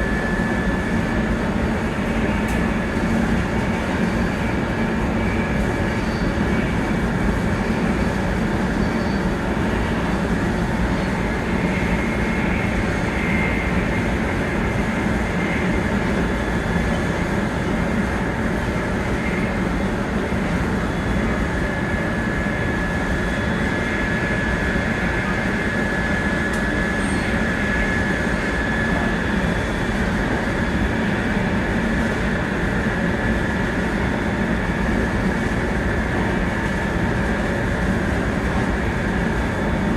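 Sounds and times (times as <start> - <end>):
train rumble and rush: 0.0 - 39.9.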